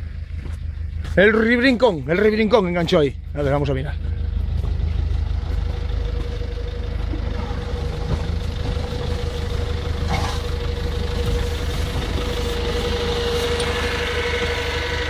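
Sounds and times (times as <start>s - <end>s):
constant tone: 0.0s - 15.0s
engine idling: 0.0s - 15.0s.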